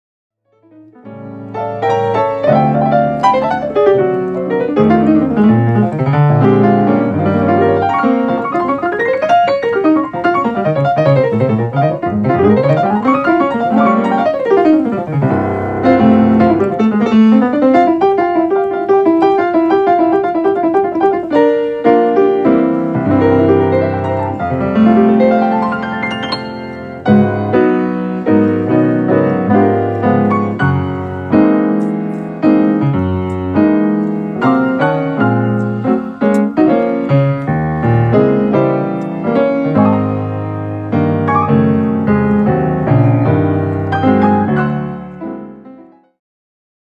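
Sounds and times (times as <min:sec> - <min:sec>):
solo piano: 0:00.4 - 0:46.2.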